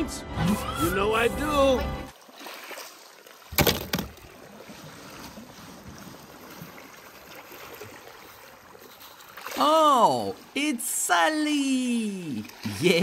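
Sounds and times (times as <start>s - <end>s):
running water rushing: 0.9s - 13.0s.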